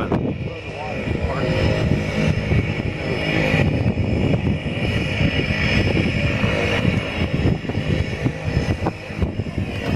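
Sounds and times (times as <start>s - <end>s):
turboprop engine running: 0.0s - 9.9s.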